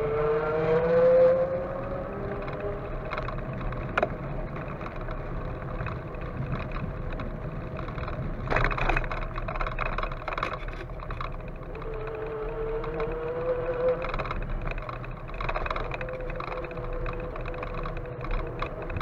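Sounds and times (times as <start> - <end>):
road noise: 0.0 - 19.0
vehicle engine running: 0.0 - 19.0
wheels rattling on brick paving: 1.7 - 19.0.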